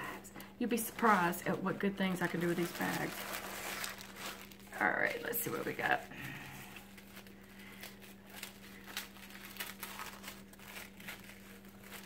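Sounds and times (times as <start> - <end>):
steady low hum: 0.0 - 12.0
packaging crinkling: 0.7 - 12.0.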